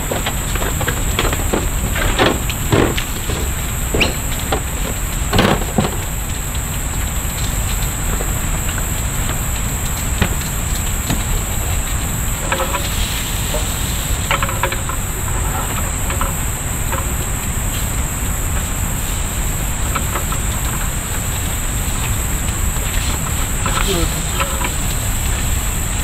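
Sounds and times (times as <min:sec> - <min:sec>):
background hiss: 0:00.0 - 0:26.0
insects singing: 0:00.0 - 0:26.0.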